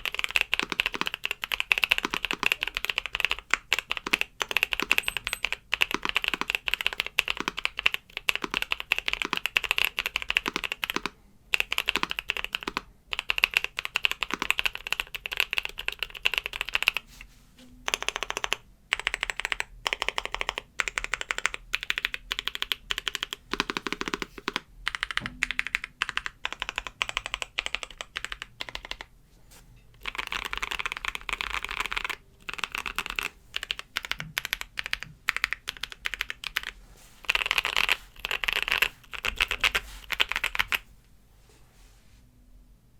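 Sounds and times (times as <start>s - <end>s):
mechanical keyboard typing: 0.0s - 17.0s, 17.9s - 29.1s, 30.0s - 40.9s.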